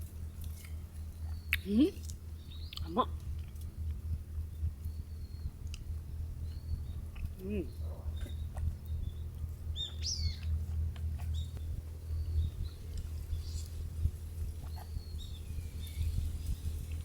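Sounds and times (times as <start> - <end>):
low rumble: 0.0 - 17.0
wild birds calling: 0.0 - 17.0.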